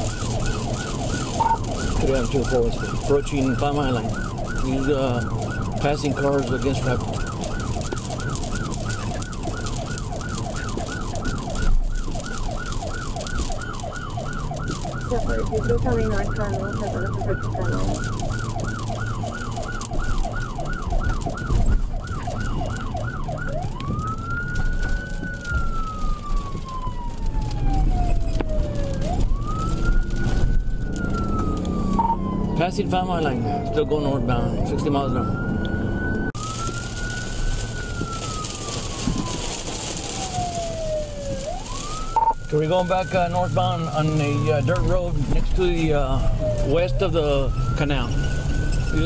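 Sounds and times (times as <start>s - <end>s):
car engine: 0.0s - 49.0s
police siren: 0.0s - 49.0s
road rumble: 0.0s - 49.0s.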